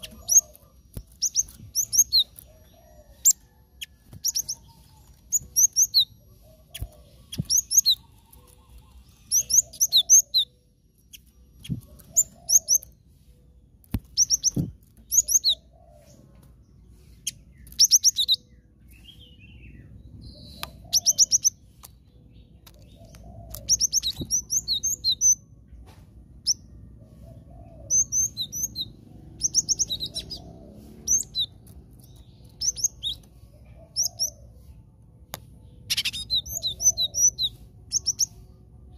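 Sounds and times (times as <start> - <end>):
bird singing high chirps: 0.0 - 25.6, 26.4 - 34.8, 35.4 - 38.9.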